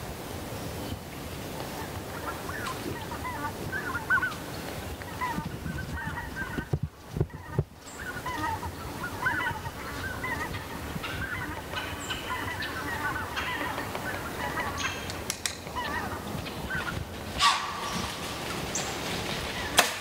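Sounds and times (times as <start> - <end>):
birds calling: 0.6 - 20.0.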